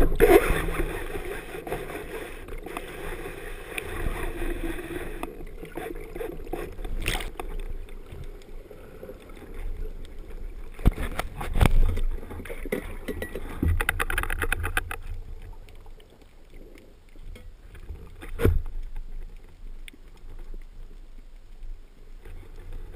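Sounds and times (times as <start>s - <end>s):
underwater surging water rumble: 0.0s - 22.9s.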